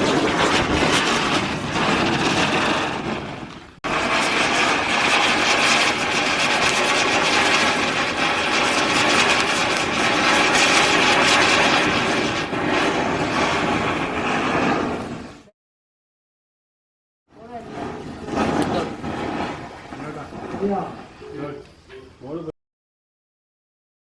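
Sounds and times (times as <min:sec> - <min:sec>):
spinner firework hissing: 0:00.0 - 0:15.5, 0:17.3 - 0:22.5.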